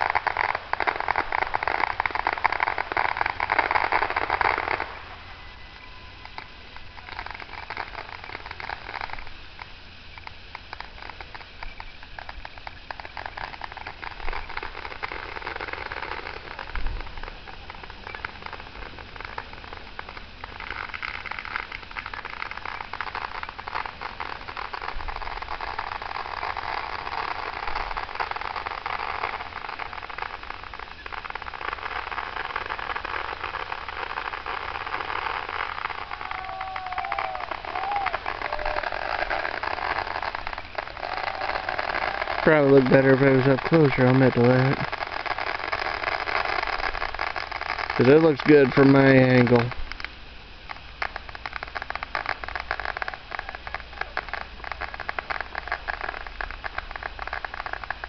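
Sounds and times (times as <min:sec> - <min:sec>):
distant fireworks crackling: 0:00.0 - 0:58.0.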